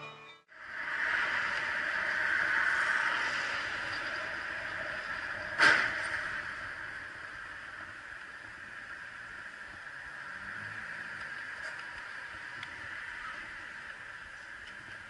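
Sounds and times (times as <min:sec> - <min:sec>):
vehicle running noise: 0:00.0 - 0:15.0.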